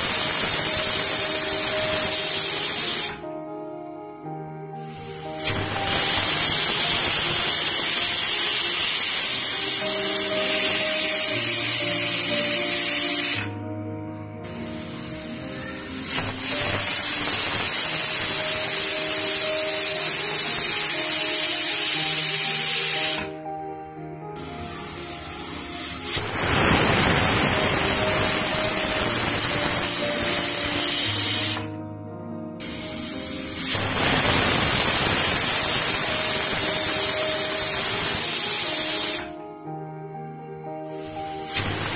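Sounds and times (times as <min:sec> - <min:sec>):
pressure cooker whistling: 0:00.0 - 0:03.2, 0:04.8 - 0:13.7, 0:14.4 - 0:23.4, 0:24.4 - 0:31.8, 0:32.6 - 0:39.4, 0:40.9 - 0:41.9.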